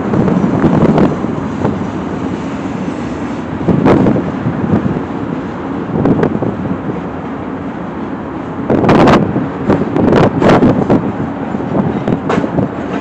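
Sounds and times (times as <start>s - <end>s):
train rolling over bridge: 0.0s - 13.0s.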